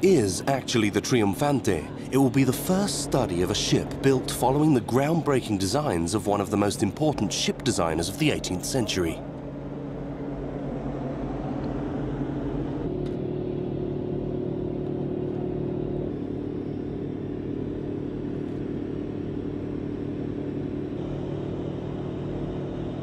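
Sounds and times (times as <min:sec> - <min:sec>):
steady pitched tone: 0:00.0 - 0:22.2.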